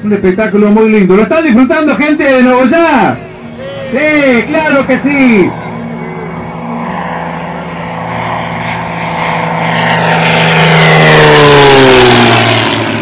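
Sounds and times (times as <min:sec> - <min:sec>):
propeller plane fly-by: 0:00.0 - 0:13.0.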